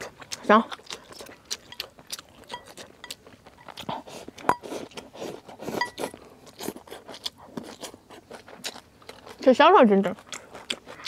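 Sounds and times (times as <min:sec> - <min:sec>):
person chewing rice: 0:00.0 - 0:11.0.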